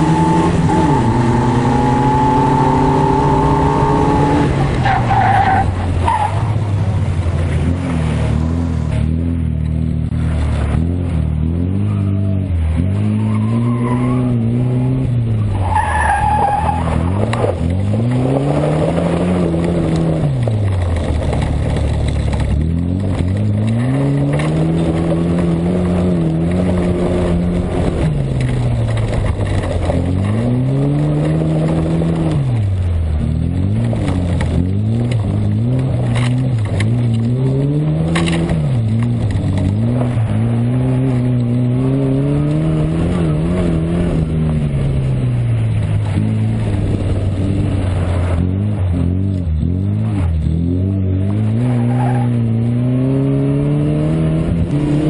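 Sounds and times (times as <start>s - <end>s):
gravel and tyre noise: 0.0s - 55.0s
rally car engine revving: 0.0s - 55.0s.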